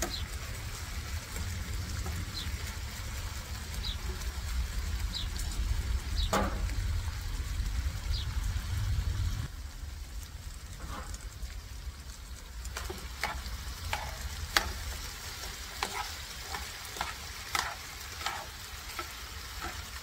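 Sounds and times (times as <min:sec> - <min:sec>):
meat sizzling in a frying pan: 0:00.0 - 0:20.0
steady low rumble: 0:00.3 - 0:20.0.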